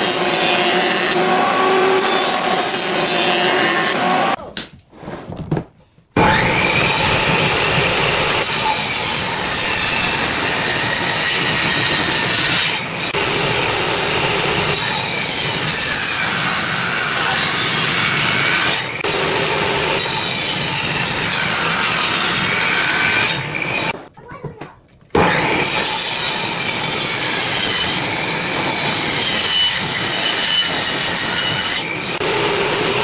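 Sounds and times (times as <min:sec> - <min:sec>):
table saw ripping wood: 0:00.0 - 0:04.4, 0:06.2 - 0:24.0, 0:25.2 - 0:33.0.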